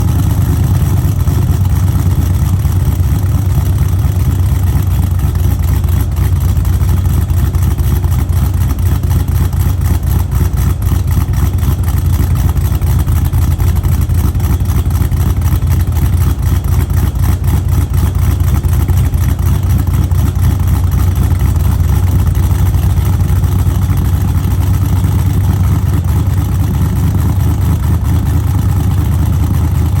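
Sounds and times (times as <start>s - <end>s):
engine running with deep exhaust: 0.0s - 30.0s.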